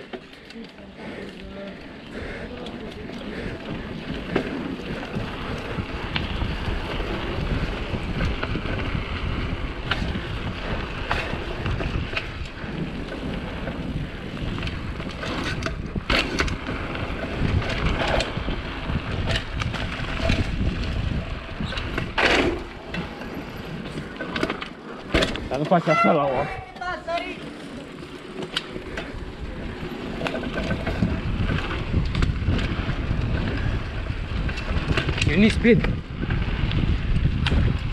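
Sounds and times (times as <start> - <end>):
bike clicks and rattles: 0.0 - 37.9
wind buffeting microphone: 1.0 - 37.9.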